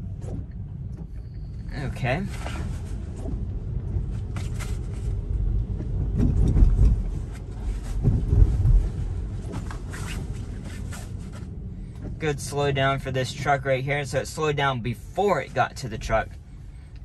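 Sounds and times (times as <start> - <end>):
windshield wiper sweeping: 0.0 - 14.2
tyres rumbling on wet pavement: 0.0 - 16.6.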